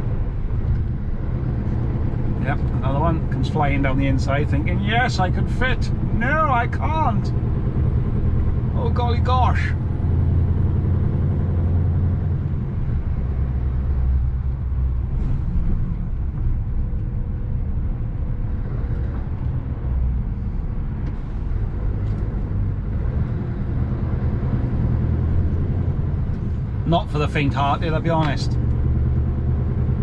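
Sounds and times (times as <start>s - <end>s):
diesel lorry engine droning: 0.0s - 30.0s.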